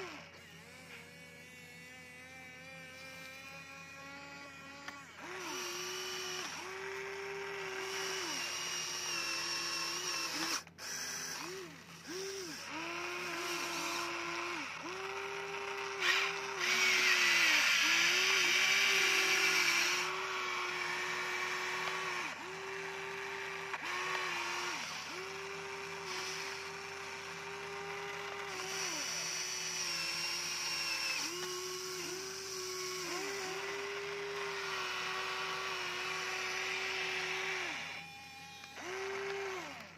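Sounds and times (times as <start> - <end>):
electric gear motors whining: 0.0 - 39.9.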